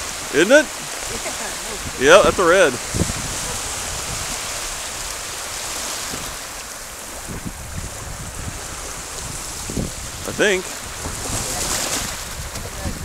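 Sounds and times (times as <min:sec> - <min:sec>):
low rumbling: 0:00.0 - 0:13.0
small waves breaking on beach: 0:00.0 - 0:13.0.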